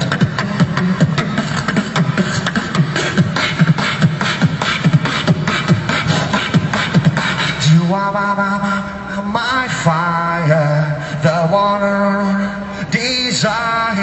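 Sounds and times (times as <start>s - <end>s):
human beatboxing through amplifier: 0.0s - 14.0s.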